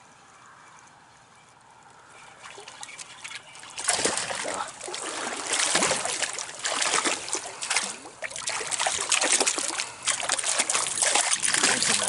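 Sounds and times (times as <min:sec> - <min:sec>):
stream water trickling and splashing: 0:01.6 - 0:12.0.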